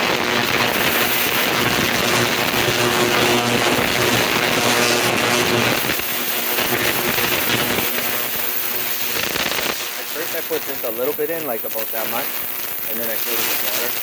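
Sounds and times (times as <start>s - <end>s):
ultrasonic cleaner buzzing hiss: 0.0s - 14.0s.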